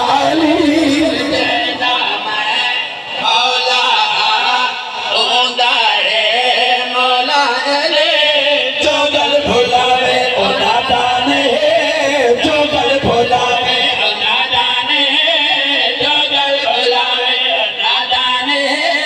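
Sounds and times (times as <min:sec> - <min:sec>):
men singing through loudspeakers: 0:00.0 - 0:19.0.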